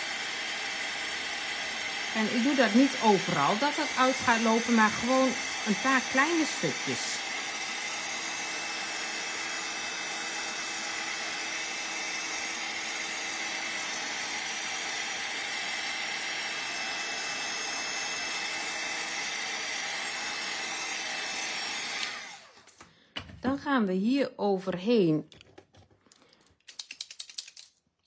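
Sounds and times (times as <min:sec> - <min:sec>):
heat tool blowing hot air: 0:00.0 - 0:22.5.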